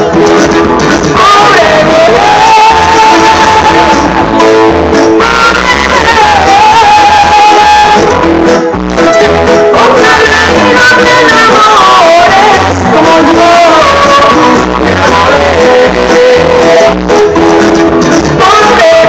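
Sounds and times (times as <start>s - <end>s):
song over a sound system: 0.0s - 19.0s.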